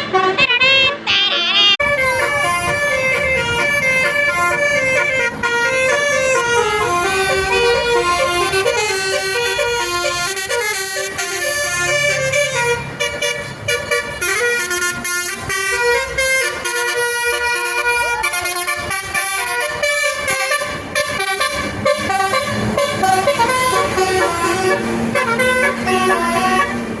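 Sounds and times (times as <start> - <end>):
musical bus horn melody: 0.0 - 27.0.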